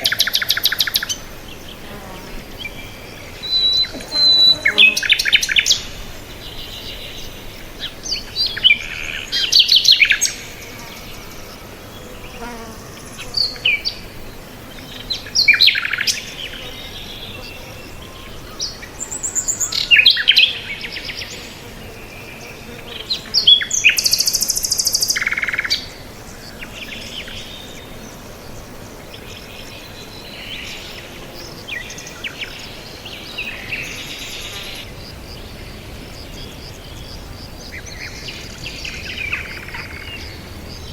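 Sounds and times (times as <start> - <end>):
faint steady hiss: 0.0 - 40.9.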